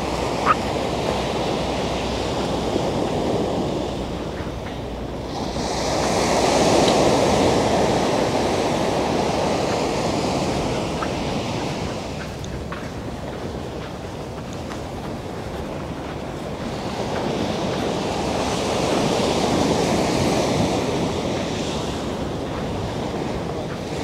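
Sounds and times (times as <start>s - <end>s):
sea surf washing onto shore: 0.0s - 24.0s
wind buffeting microphone: 0.0s - 24.0s.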